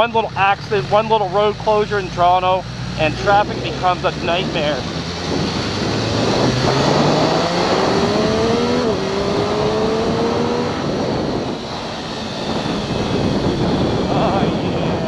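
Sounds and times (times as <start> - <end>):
motorcycle engine accelerating: 0.0 - 15.0
road and wind noise: 0.0 - 15.0.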